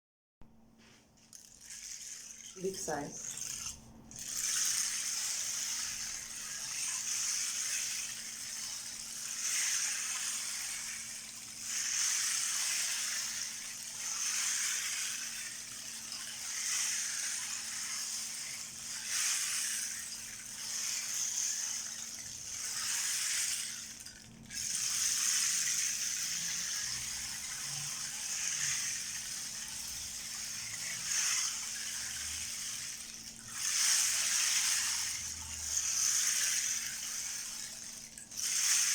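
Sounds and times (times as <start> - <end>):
beads rolling in rain disk: 0.8 - 38.9.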